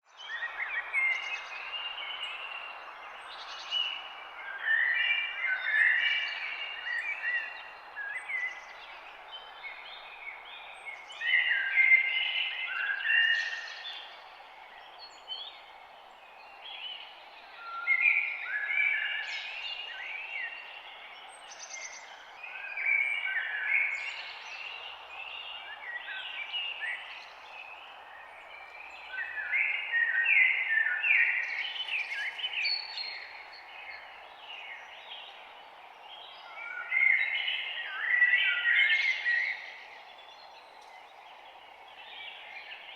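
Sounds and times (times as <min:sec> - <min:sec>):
songbirds chirping and singing: 0:00.1 - 0:42.9.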